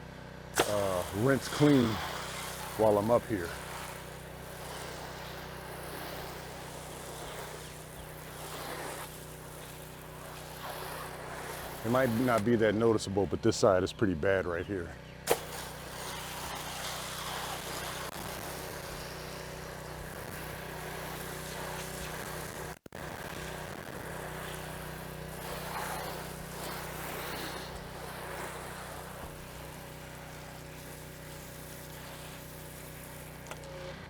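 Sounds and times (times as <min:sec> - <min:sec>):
pressure washer spraying: 0:00.6 - 0:12.7, 0:15.3 - 0:34.0.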